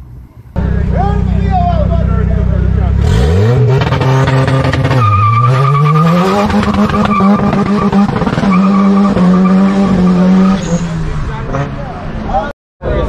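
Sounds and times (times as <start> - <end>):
car engine revving high: 0.6 - 12.0.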